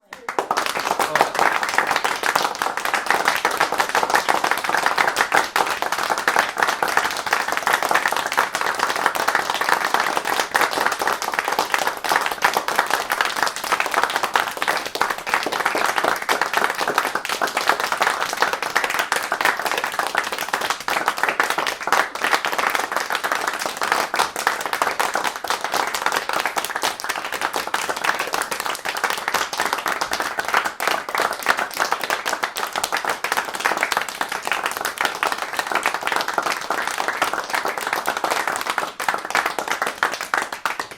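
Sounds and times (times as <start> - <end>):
crowd applauding: 0.0 - 40.9.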